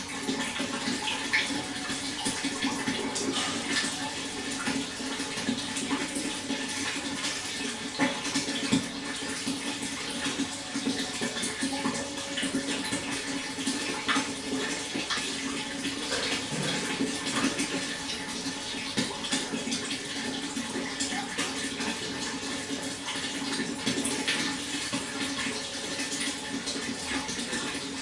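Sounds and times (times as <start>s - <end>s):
water flowing: 0.0s - 28.0s.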